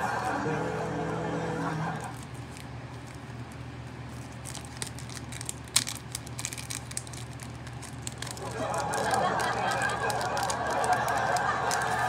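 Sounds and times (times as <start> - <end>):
low steady hum: 0.0 - 12.0
foil wrapper crinkling: 1.9 - 12.0
foil wrapper snap: 2.0 - 12.0.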